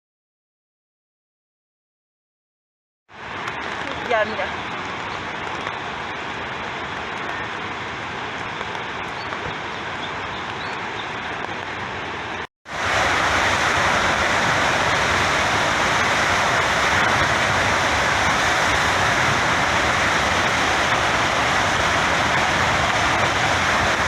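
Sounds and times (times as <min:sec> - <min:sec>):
water rushing out of spillway: 0:03.1 - 0:24.0.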